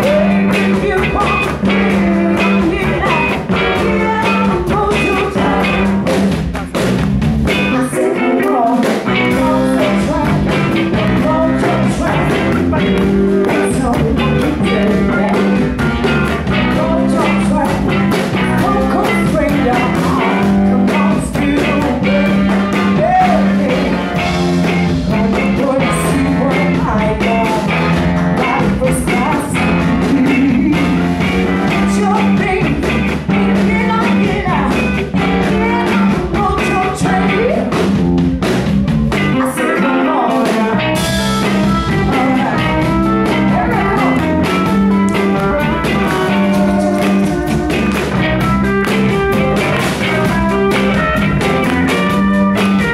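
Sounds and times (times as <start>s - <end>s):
woman singing: 0.0s - 6.1s, 7.5s - 37.8s, 39.1s - 48.4s
drums: 0.0s - 52.9s
electric bass: 0.0s - 52.9s
electric guitar: 0.0s - 52.9s.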